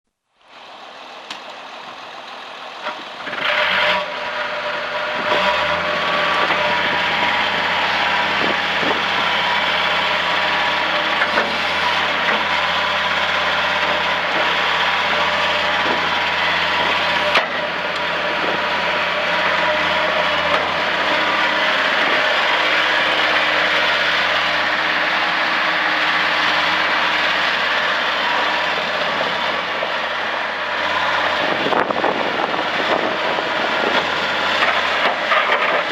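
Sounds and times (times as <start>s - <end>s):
diesel engine running: 0.4s - 35.9s.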